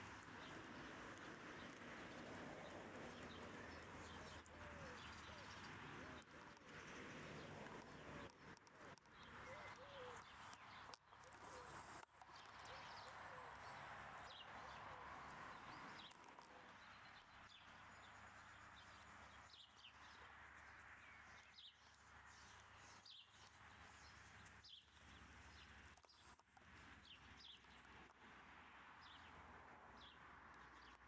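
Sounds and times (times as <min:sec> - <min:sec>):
faint outdoor ambience: 0:00.0 - 0:31.0.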